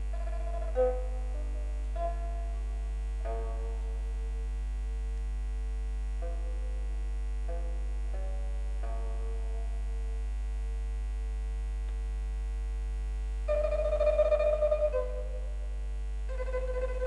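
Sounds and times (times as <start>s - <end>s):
soft slow background music: 0.0s - 5.5s, 6.1s - 10.9s, 13.5s - 17.0s
steady low hum: 0.0s - 17.0s.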